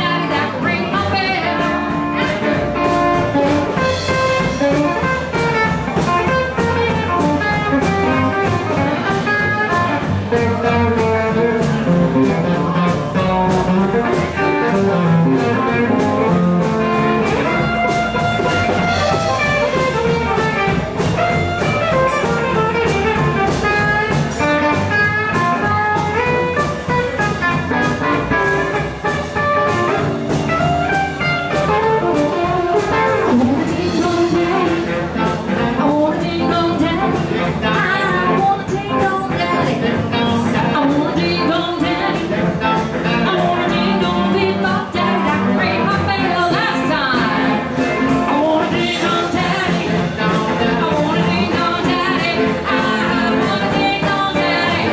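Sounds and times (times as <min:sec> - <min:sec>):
acoustic guitar: 0:00.0 - 0:54.9
drum kit beat: 0:00.0 - 0:54.9
electric guitar: 0:00.0 - 0:54.9
saxophone: 0:00.0 - 0:54.9.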